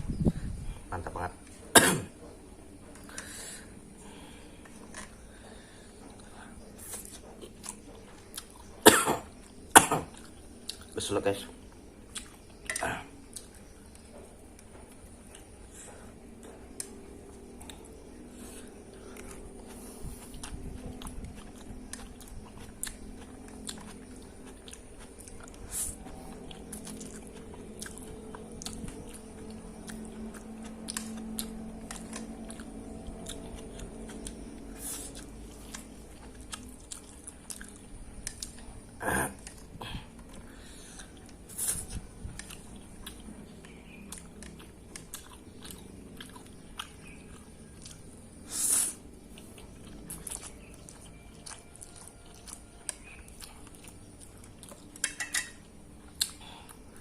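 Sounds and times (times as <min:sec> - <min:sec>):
person chewing noodles: 0:02.4 - 0:11.0, 0:11.6 - 0:57.0.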